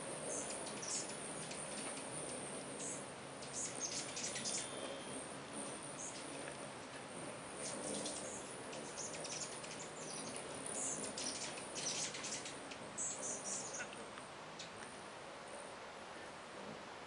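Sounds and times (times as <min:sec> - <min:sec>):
hummingbirds chipping and twittering: 0:00.0 - 0:16.5.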